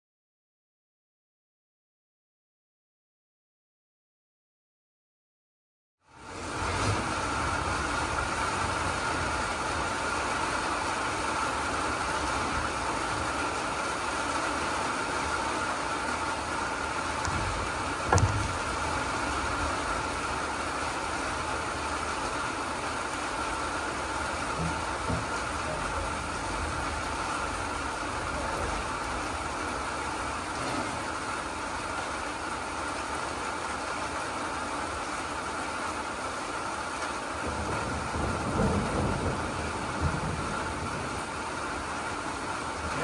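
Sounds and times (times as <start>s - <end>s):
rain pouring on paving: 6.0s - 43.0s.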